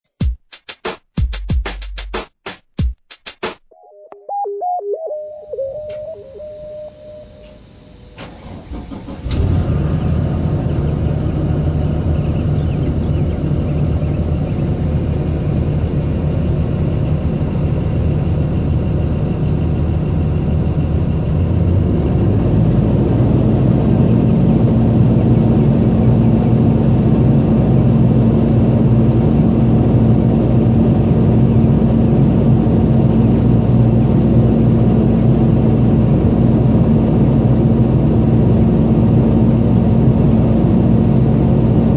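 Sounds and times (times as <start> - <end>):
diesel bus engine starting and idling: 5.7 - 41.9.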